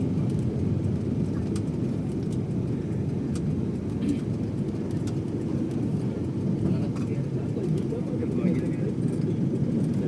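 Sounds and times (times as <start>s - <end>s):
jet engine drone in cabin: 0.0s - 10.0s
faint clicks: 0.2s - 10.0s.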